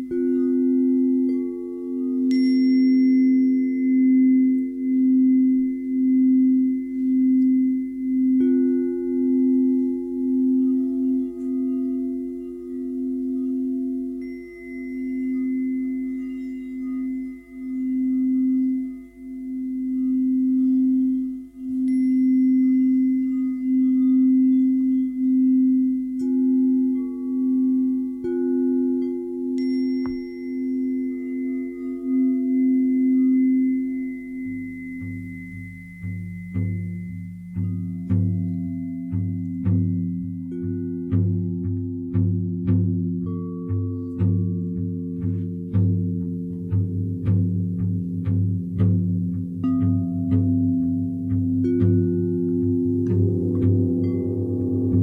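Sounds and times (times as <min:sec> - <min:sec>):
high ringing overtones: 0:00.0 - 0:55.0
singing bowls ringing: 0:00.0 - 0:55.0.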